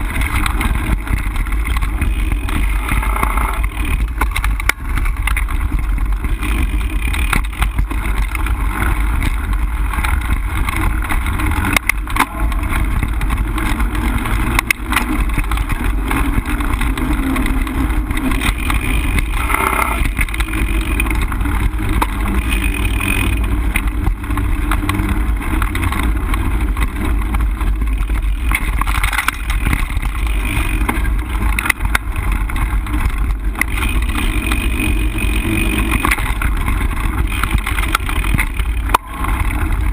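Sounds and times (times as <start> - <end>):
bike clicks and rattles: 0.0 - 39.9
tyres rumbling on dirt: 0.0 - 39.9.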